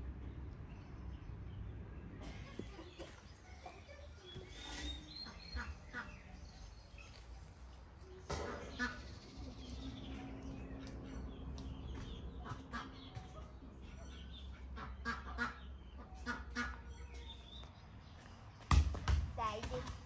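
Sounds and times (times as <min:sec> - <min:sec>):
farmyard birds calling: 0:00.0 - 0:18.6.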